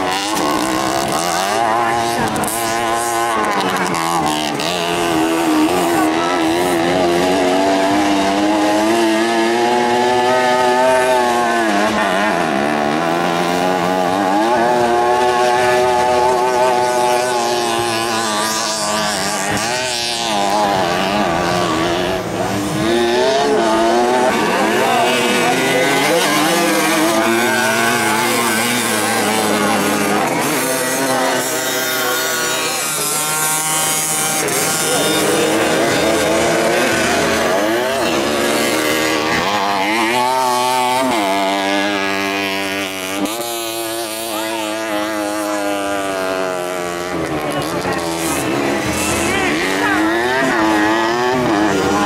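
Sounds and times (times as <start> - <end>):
mopeds revving: 0.0 - 52.0.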